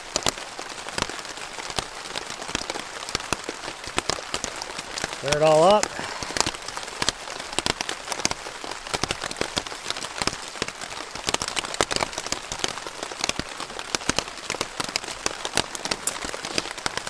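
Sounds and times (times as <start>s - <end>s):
rain tapping on a tent: 0.0s - 17.0s.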